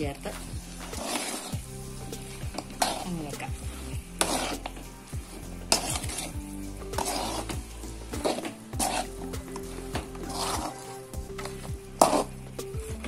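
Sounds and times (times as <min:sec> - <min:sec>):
food sizzling in a pan: 0:00.0 - 0:13.0
spatula scraping a pan: 0:00.1 - 0:13.0.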